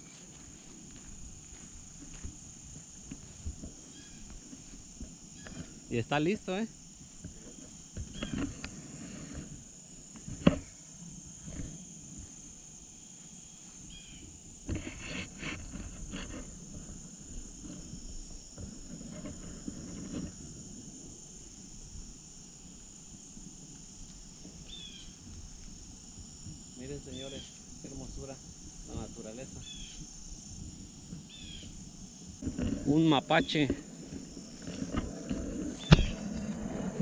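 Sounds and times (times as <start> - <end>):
insect chorus trilling: 0.0 - 37.0.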